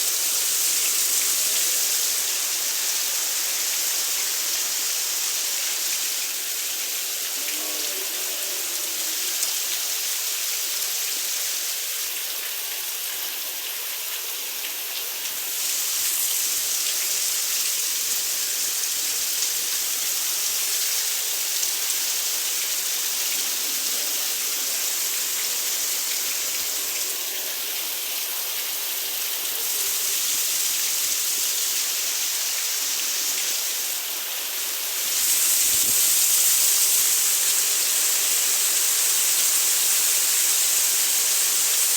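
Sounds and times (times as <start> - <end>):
heavy rain falling: 0.0 - 12.9, 15.2 - 41.9.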